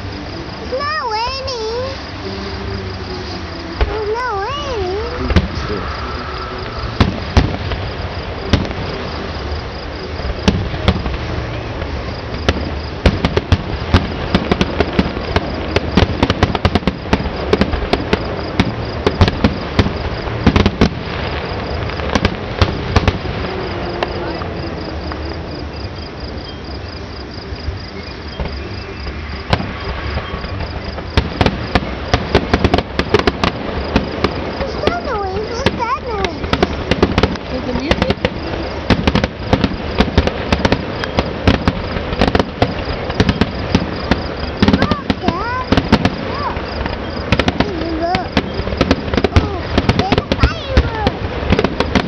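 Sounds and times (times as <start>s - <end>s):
crickets chirping: 0.0s - 52.0s
fireworks bangs and crackles: 0.0s - 52.0s.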